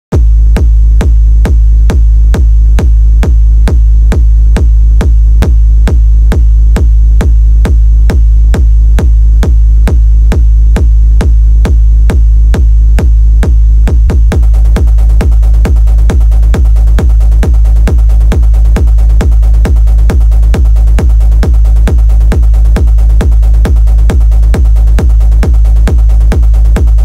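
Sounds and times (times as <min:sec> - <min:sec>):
techno kick drum: 0:00.1 - 0:27.0.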